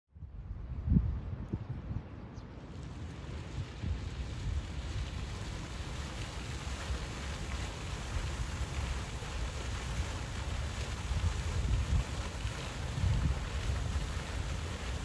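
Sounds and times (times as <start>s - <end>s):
wind buffeting microphone: 0.2s - 15.0s
fountain spraying and splashing: 2.6s - 15.0s.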